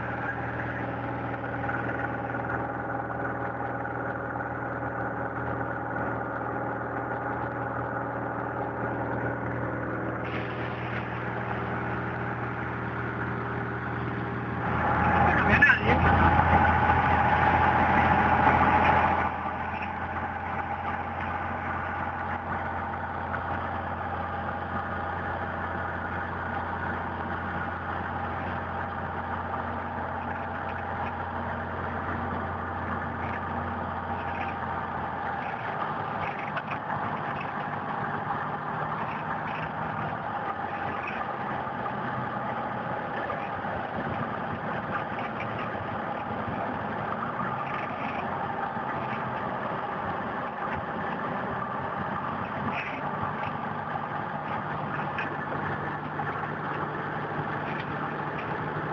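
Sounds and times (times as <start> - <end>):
airplane piston engine droning: 0.0 - 58.9.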